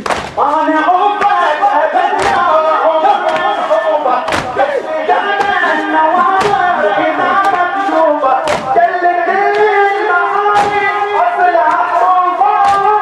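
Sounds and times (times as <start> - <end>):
crowd beating chests: 0.0 - 13.0
crowd chanting in unison: 0.0 - 13.0.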